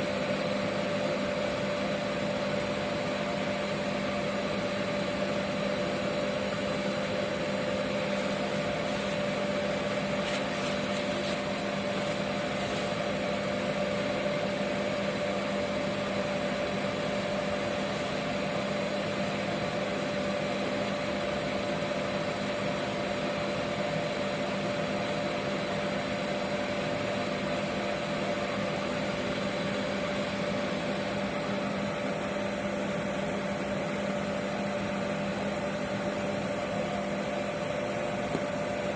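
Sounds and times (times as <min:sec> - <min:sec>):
oil burner humming: 0:00.0 - 0:38.9.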